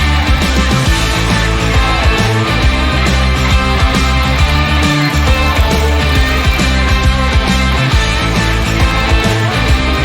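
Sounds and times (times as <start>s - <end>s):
rock music with bass line: 0.0s - 10.0s.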